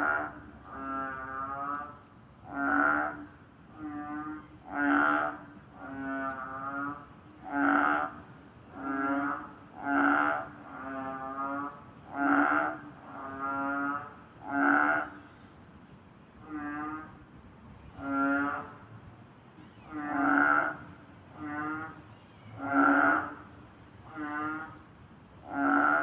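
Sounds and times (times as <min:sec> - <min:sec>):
frogs calling: 0:00.0 - 0:26.0.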